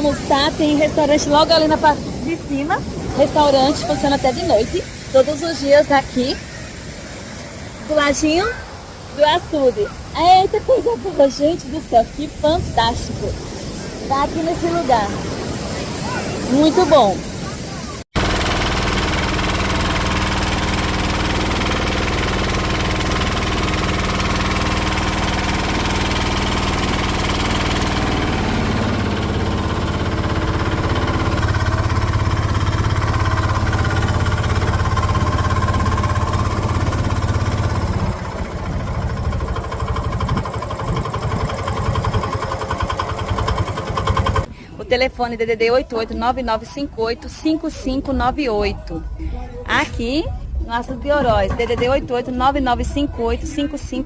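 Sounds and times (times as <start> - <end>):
engine running: 0.0 - 45.2, 46.1 - 54.0.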